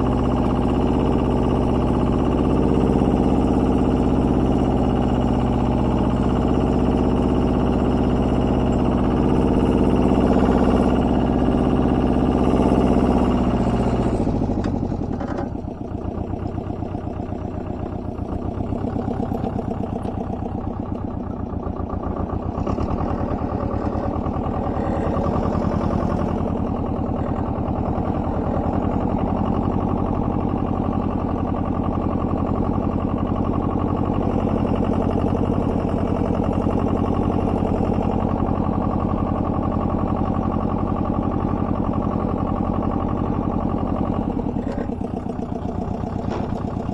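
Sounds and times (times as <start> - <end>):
walking tractor engine running: 0.0 - 46.9.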